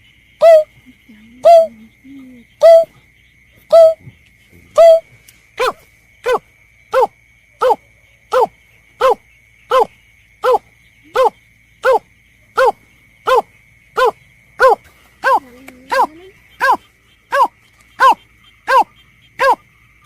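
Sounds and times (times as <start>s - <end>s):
snipe barking calls: 0.4s - 20.0s.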